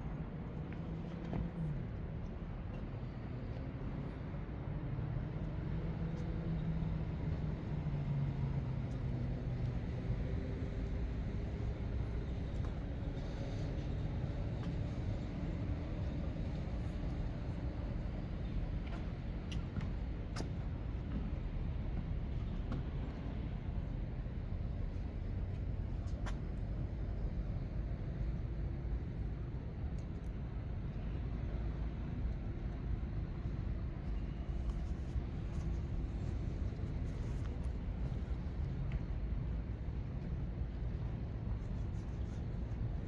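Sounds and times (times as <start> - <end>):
low rumble of traffic: 0.0 - 43.0.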